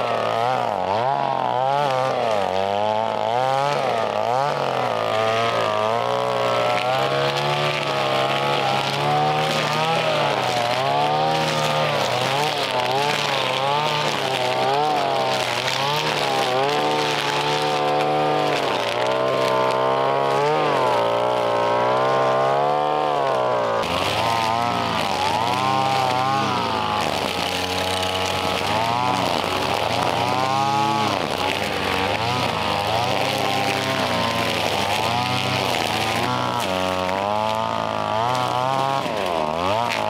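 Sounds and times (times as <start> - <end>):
brush cutter engine cutting grass: 0.0 - 40.0.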